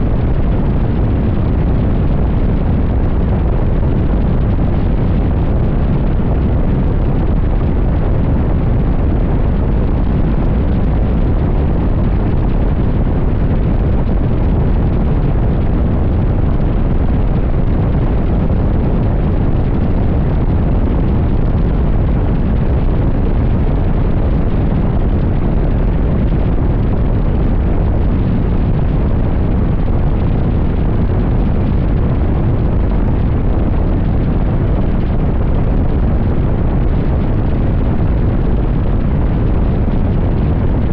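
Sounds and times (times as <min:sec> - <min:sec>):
wind buffeting a microphone: 0:00.0 - 0:40.9.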